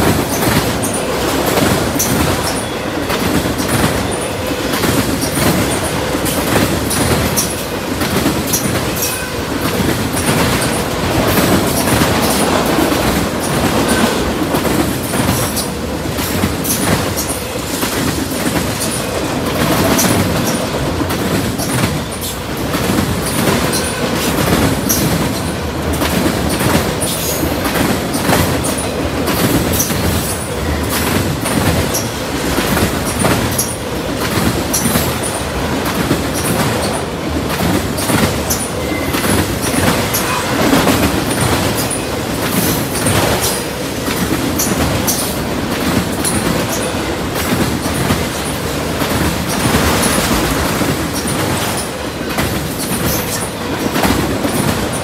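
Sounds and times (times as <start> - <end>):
freight train wheels rumbling: 0.0 - 55.0
wheel clicks on rail: 0.0 - 55.0.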